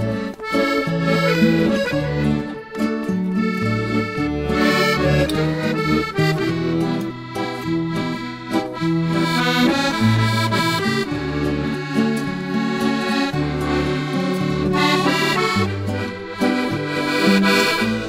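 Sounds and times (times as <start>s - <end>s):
accordion melody: 0.0s - 18.0s
stepping bass line: 0.0s - 18.0s.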